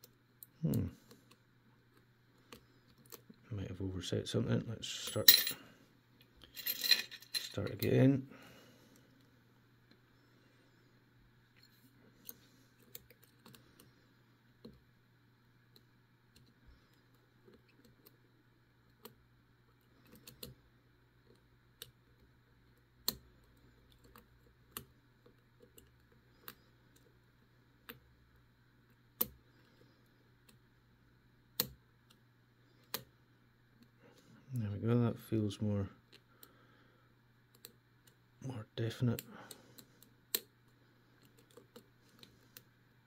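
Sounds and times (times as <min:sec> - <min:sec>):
faint low hum: 0:00.0 - 0:43.0.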